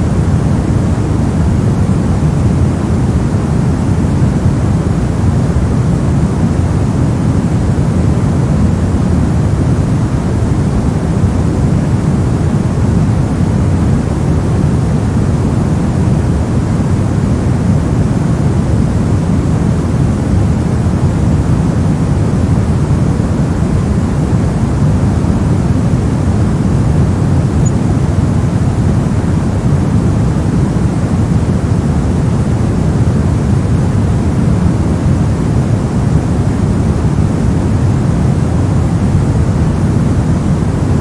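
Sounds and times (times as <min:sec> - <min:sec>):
deep rumbling white noise: 0:00.0 - 0:41.0.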